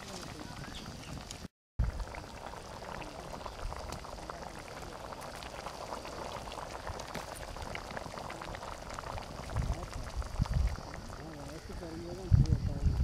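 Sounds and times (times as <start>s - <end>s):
gravy bubbling and popping: 0.0s - 13.0s.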